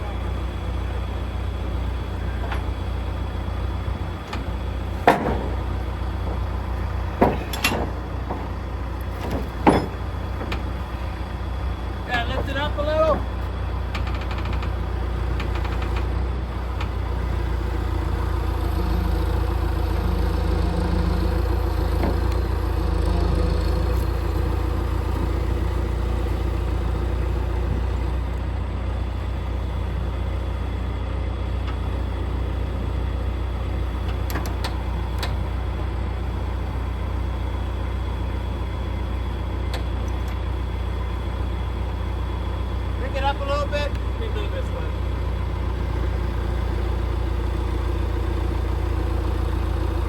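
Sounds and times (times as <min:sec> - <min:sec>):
truck engine and road rumble: 0:00.0 - 0:50.0.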